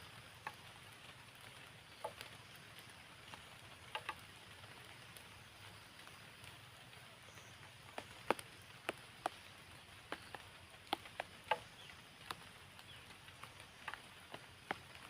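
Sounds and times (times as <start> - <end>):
light rain hiss: 0.0 - 15.0
raindrops tapping on surfaces: 0.0 - 15.0.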